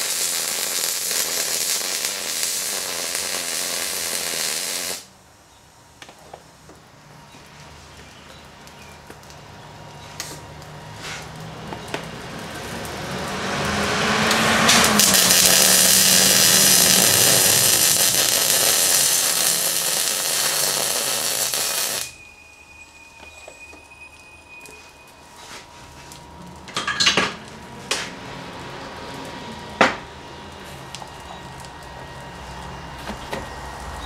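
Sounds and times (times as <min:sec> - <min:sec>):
welding arc crackling sizzle: 0:00.0 - 0:05.2, 0:06.1 - 0:22.6, 0:23.8 - 0:34.0.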